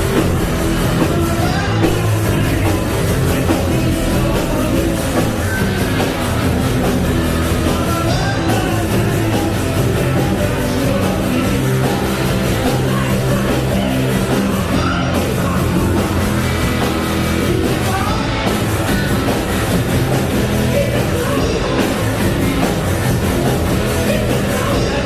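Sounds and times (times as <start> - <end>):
person singing: 0.0 - 6.6, 7.4 - 25.0
loud rock music: 0.0 - 25.0.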